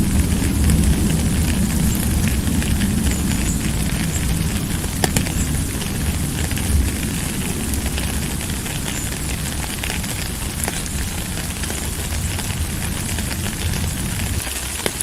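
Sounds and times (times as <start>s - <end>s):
low rumble: 0.0s - 14.6s
drops ticking: 0.0s - 15.0s
steady rain hiss: 0.0s - 15.0s.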